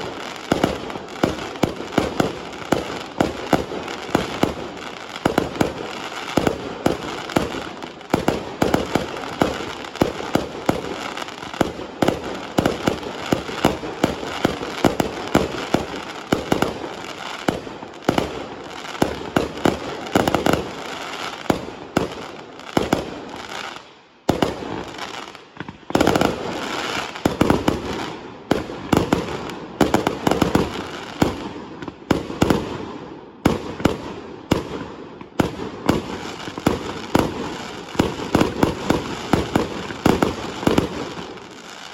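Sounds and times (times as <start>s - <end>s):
fireworks bangs and crackle: 0.0s - 41.9s.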